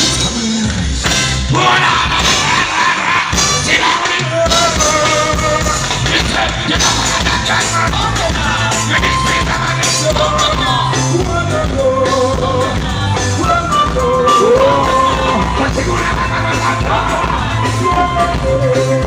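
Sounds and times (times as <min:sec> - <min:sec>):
person singing: 0:00.0 - 0:19.0
pulsing bass: 0:00.0 - 0:19.0.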